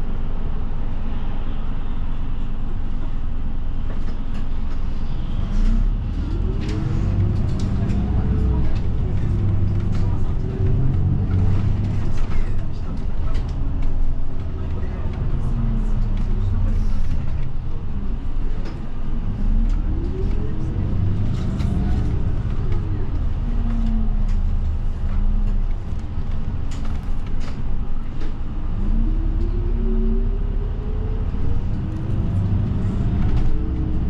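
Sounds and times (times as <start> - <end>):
bus engine from inside: 0.0 - 34.0
road rumble: 0.0 - 34.0.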